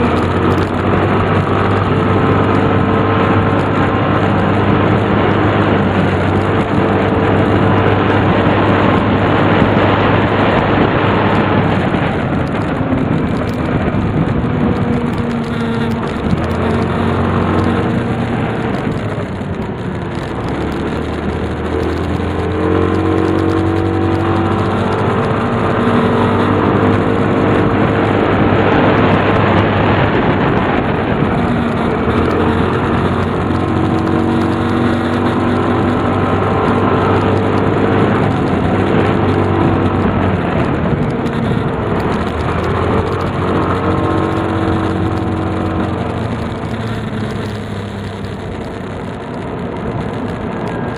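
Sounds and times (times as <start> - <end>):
engine running: 0.0 - 50.9
road and wind noise: 0.0 - 50.9.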